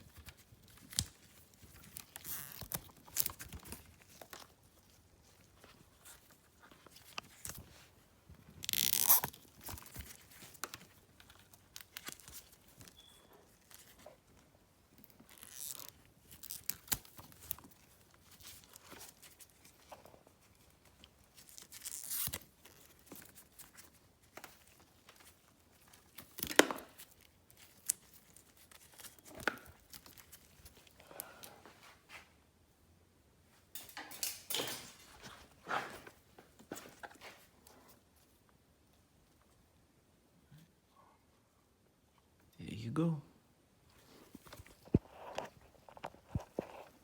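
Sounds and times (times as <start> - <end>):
rustling and scraping of parts: 0.0 - 32.4, 33.5 - 39.6, 43.9 - 47.0.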